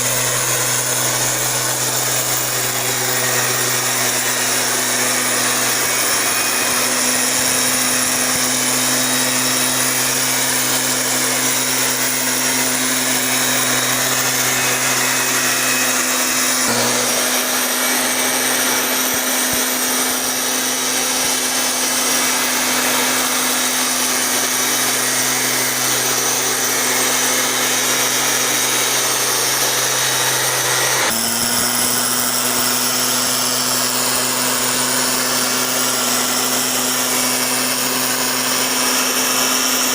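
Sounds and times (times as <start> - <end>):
motorised sprayer engine and blower: 0.0 - 39.9.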